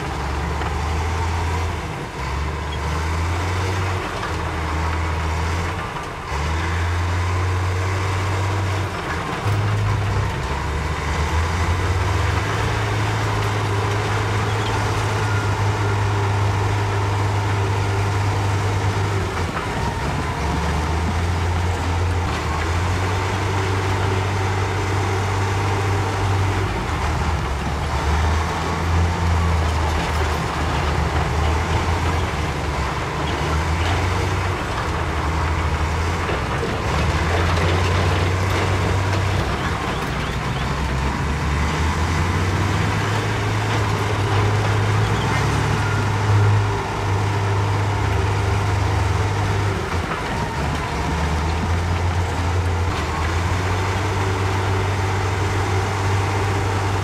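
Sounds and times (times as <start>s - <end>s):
diesel machinery engine rumble: 0.0s - 57.0s.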